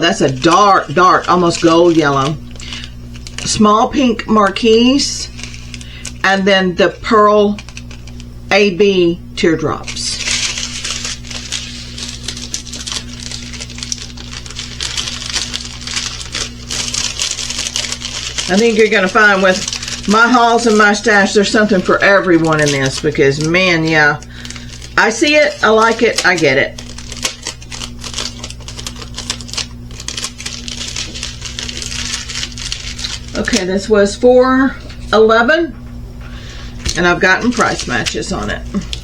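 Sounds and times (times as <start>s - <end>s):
plastic packaging crinkling: 0.0s - 8.4s, 9.5s - 35.1s, 36.3s - 39.0s
steady low hum: 0.0s - 39.0s.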